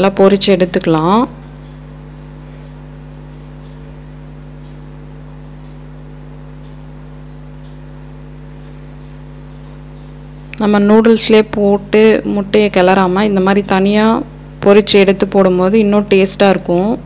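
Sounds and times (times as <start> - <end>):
mains hum: 0.0 - 17.0.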